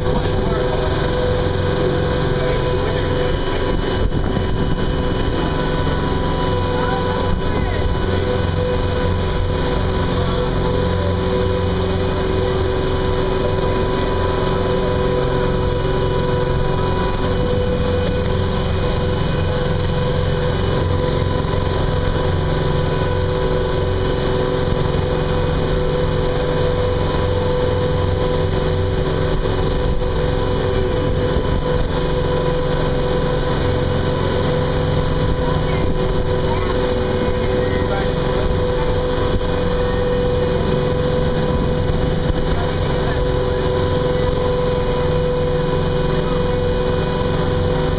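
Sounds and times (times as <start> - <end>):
boat motor droning: 0.0 - 47.9.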